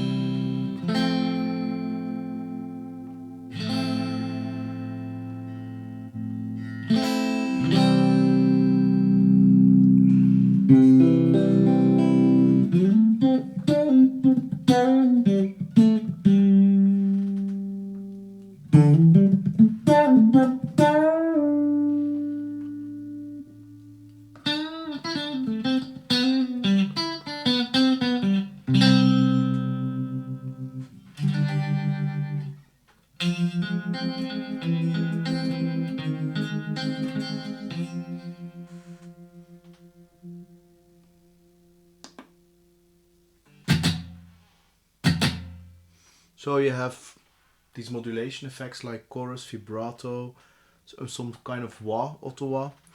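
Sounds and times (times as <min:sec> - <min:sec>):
electric guitar playing: 0:00.0 - 0:46.0.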